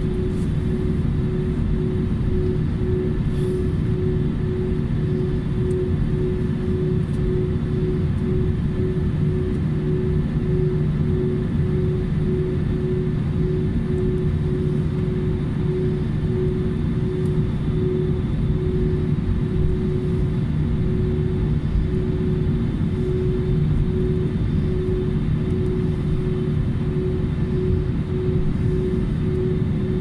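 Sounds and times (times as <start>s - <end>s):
jet engines low rumble: 0.0s - 30.0s
pulsing humming tone: 0.0s - 30.0s.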